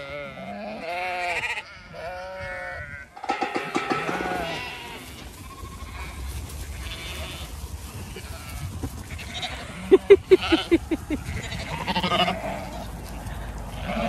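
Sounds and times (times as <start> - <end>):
sheep bleating: 0.0 - 7.6, 8.2 - 10.7, 11.3 - 12.9, 13.7 - 14.0
background noise: 0.0 - 14.0.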